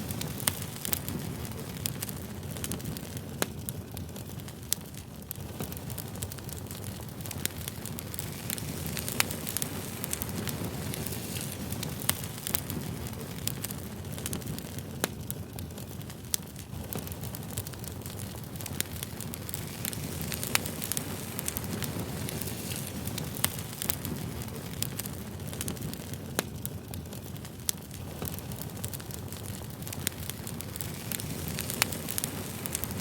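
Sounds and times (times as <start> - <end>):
burning wood popping: 0.0 - 33.0
low rush of flame: 0.0 - 33.0.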